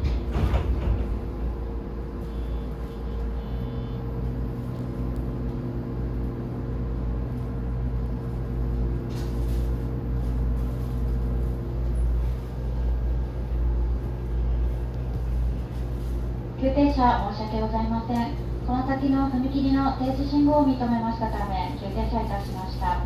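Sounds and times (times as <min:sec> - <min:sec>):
electrical equipment hum: 0:00.0 - 0:23.0
train low rumble: 0:00.0 - 0:23.0.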